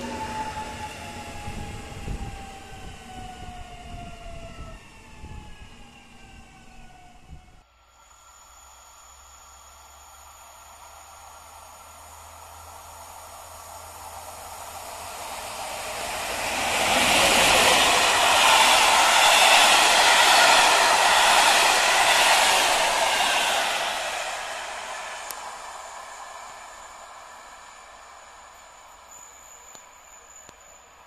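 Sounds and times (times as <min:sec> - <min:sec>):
train wheels rushing on rails: 0:00.0 - 0:07.2, 0:09.7 - 0:31.0.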